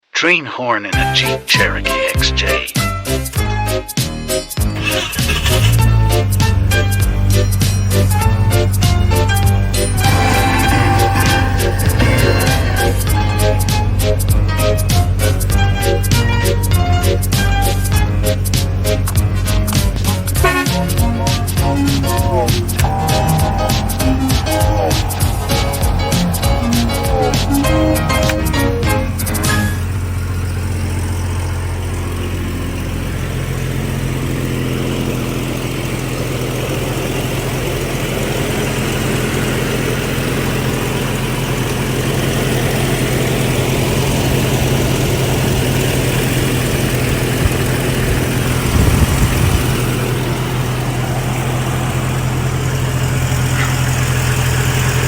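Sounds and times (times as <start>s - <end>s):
car engine idling: 1.0s - 55.0s.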